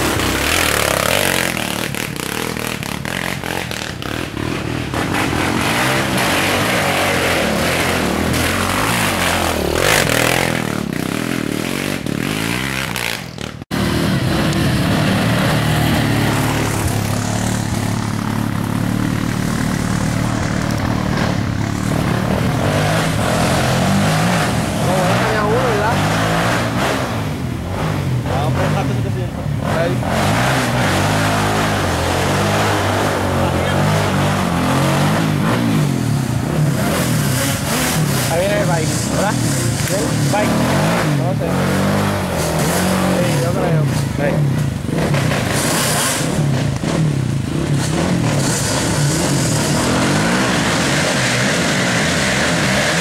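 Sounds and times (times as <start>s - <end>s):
atv engines revving: 0.0s - 53.0s.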